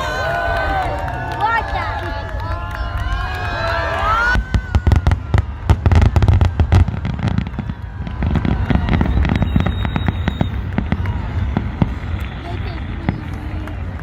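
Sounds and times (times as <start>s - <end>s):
fireworks cracks and bangs: 0.0s - 14.0s.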